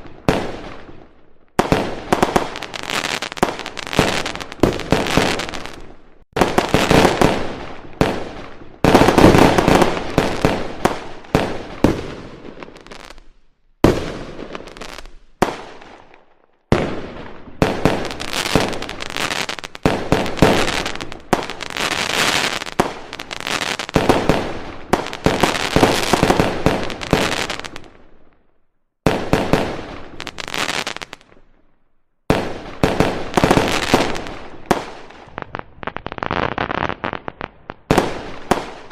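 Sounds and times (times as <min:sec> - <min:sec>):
fireworks bangs and crackling: 0:00.0 - 0:28.4, 0:29.0 - 0:38.9.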